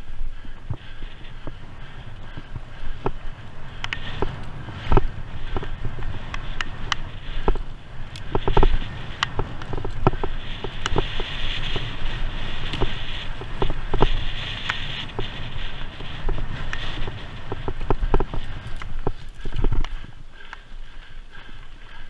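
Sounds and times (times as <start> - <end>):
wind and tyre rumble: 0.0 - 22.0
bike rattling over stones: 0.4 - 22.0.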